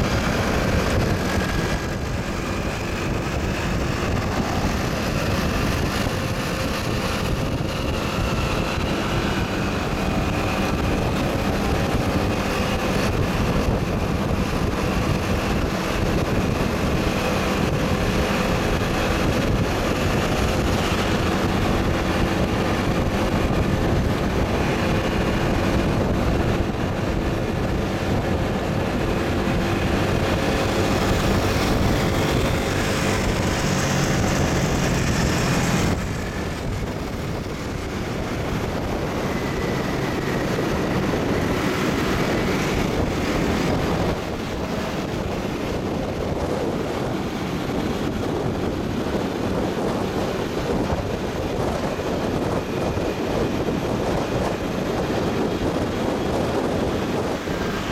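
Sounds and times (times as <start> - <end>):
motorcycle engine: 0.0 - 57.9
road noise: 0.0 - 57.9
wind rushing over microphone: 0.0 - 57.9.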